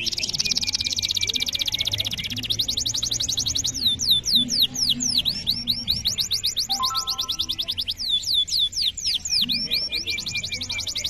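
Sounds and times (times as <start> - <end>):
canary singing trills: 0.0 - 11.0.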